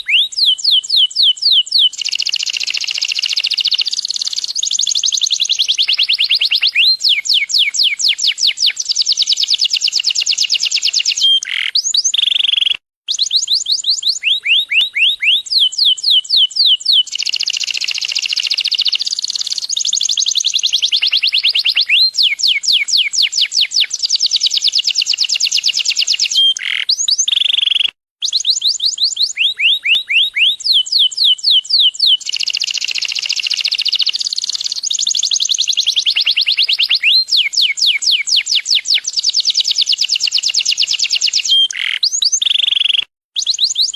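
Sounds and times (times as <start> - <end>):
canary singing rapid trills: 0.0 - 43.9.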